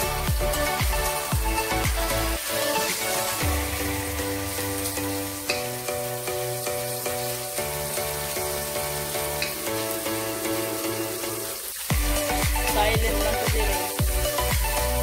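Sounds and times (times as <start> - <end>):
background music with bass: 0.0 - 15.0
food sizzling in a pan: 0.0 - 15.0.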